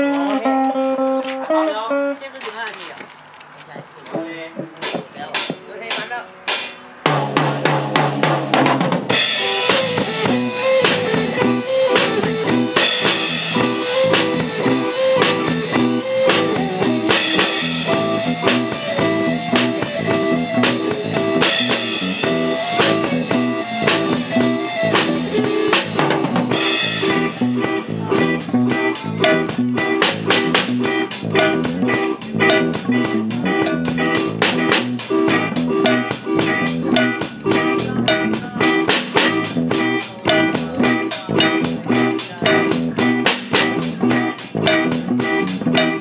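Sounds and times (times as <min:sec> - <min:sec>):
live band playing: 0:00.0 - 0:02.9, 0:03.7 - 0:46.0
drum kit playing: 0:03.7 - 0:46.0.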